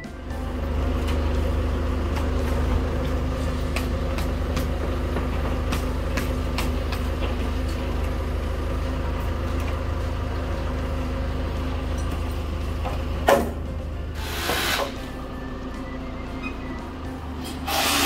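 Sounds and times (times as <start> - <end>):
crane engine idling: 0.0 - 18.0.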